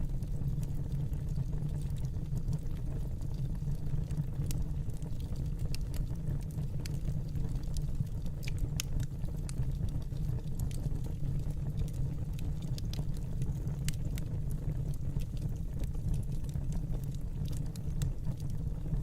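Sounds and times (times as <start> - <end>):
low fire rumble: 0.0 - 19.0
wood fire crackling: 0.0 - 19.0.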